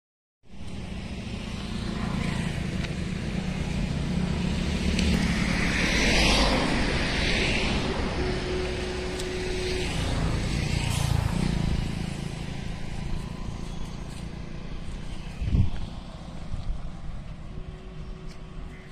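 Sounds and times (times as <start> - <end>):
road traffic rumble: 0.4 - 18.9
vehicle passing: 0.8 - 18.7.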